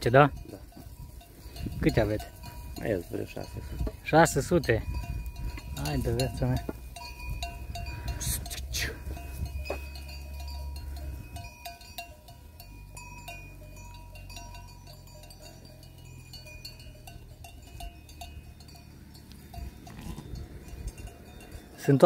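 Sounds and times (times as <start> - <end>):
sheep bells clinking: 0.0 - 22.0.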